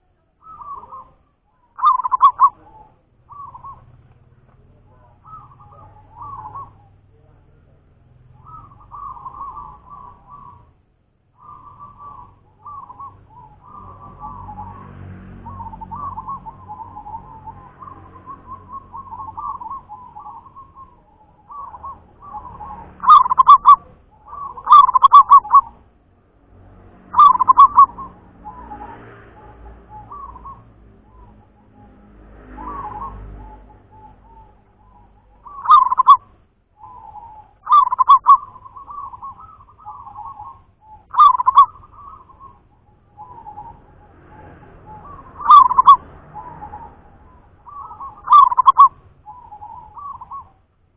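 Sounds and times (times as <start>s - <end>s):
dove rolling coos: 0.0s - 7.2s, 8.4s - 10.8s, 11.4s - 25.8s, 27.1s - 50.6s
soft dove coos: 0.0s - 10.8s, 11.4s - 25.8s, 27.1s - 36.2s, 36.8s - 50.6s.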